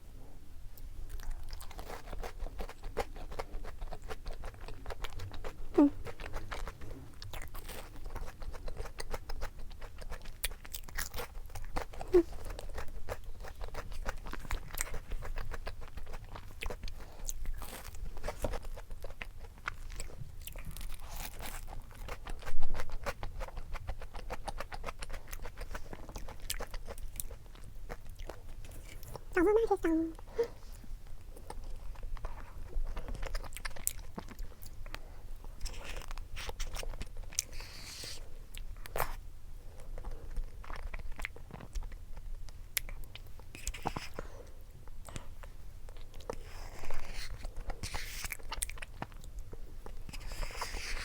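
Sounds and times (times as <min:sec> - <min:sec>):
chewing and crunching food: 0:00.7 - 0:51.0.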